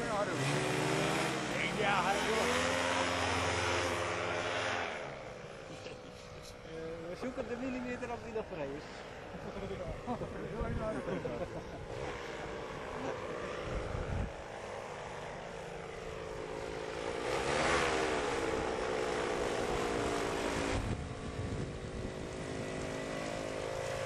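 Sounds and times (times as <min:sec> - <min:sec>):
paramotor engine and propeller: 0:00.0 - 0:24.0.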